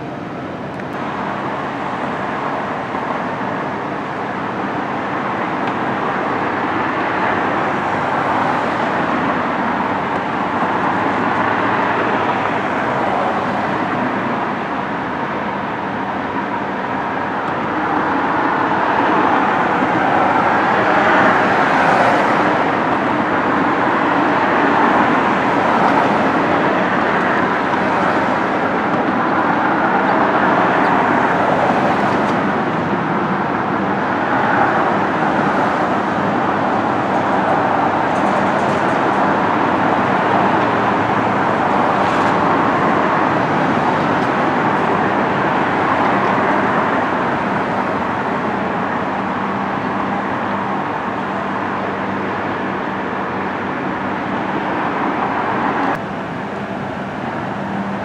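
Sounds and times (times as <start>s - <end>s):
road traffic rushing: 0.0s - 58.0s.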